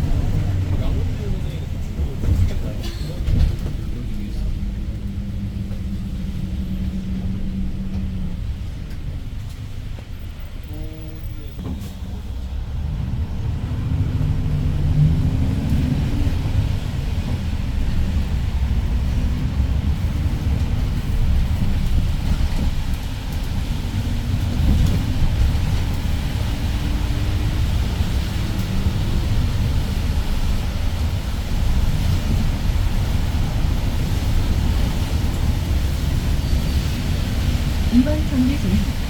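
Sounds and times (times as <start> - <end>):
bus engine running: 0.0 - 39.0
low road rumble: 0.0 - 39.0.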